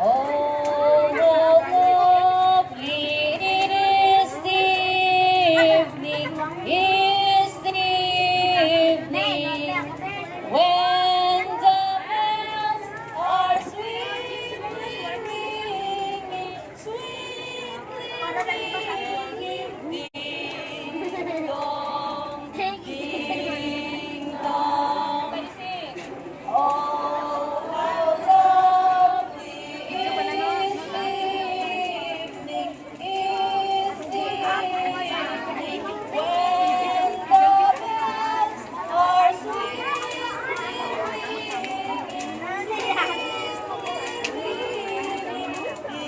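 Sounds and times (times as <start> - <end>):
young voices singing: 0.0 - 46.0.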